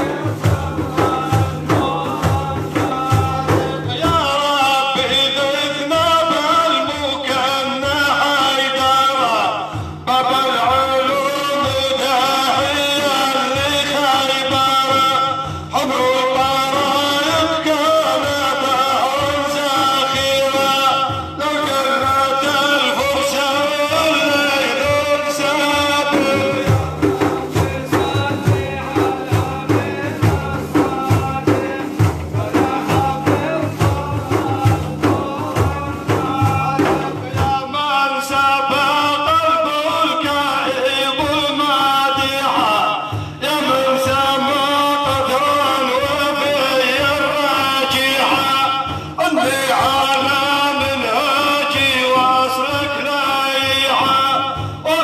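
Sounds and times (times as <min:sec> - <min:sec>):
steady drum beats: 0:00.0 - 0:55.0.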